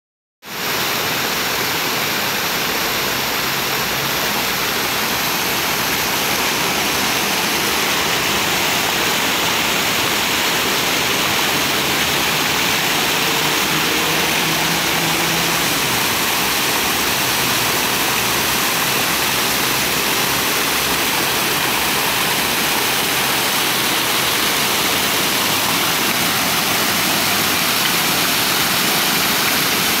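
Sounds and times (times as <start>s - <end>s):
fountain water splashing: 0.5s - 30.0s.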